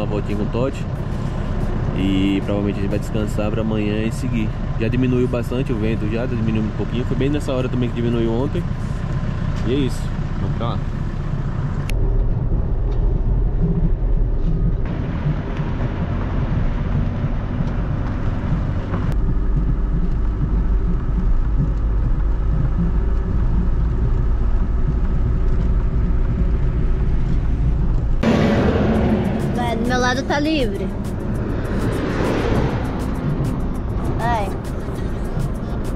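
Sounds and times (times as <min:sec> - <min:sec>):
diesel engine running: 0:00.0 - 0:35.9
road and wind noise: 0:00.0 - 0:35.9.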